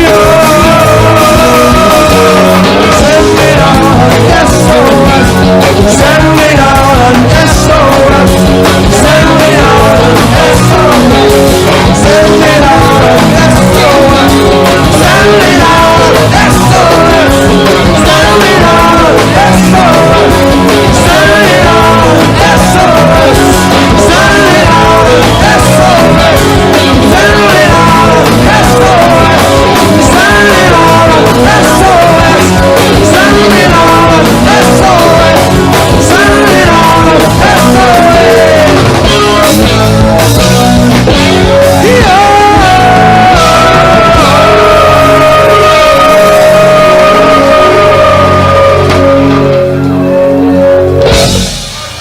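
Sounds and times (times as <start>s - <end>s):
person singing: 0.0s - 39.7s, 41.3s - 51.0s
rock band playing: 0.0s - 52.0s.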